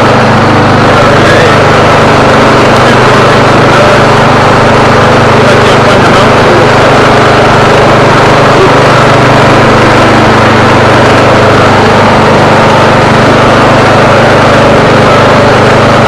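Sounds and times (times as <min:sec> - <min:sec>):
lawn tractor engine running: 0:00.0 - 0:16.0.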